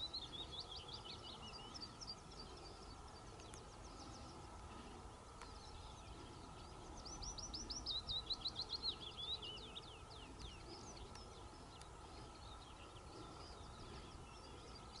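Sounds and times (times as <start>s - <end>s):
low outdoor rumble: 0.0s - 15.0s
songbird singing: 0.0s - 15.0s.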